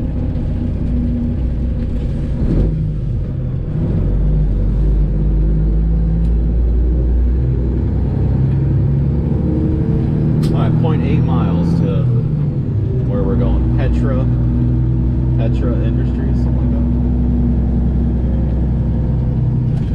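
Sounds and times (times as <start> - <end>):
truck diesel engine running: 0.0 - 19.9.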